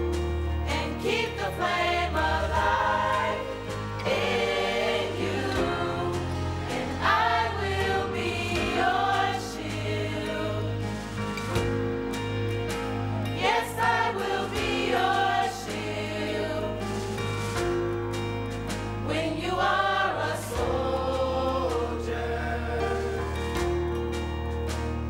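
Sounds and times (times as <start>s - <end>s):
choir singing: 0.0s - 12.5s, 13.1s - 24.3s
instrumental accompaniment: 0.0s - 25.0s.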